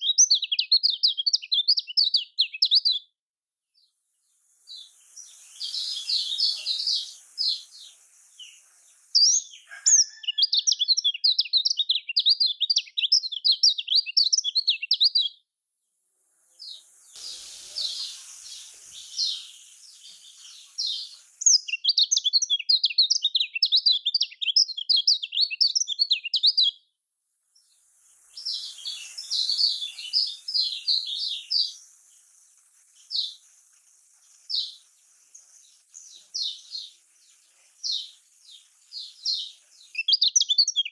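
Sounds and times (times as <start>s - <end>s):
bird chirps and twittering warble: 4.2s - 15.3s, 16.4s - 26.8s, 27.4s - 40.9s.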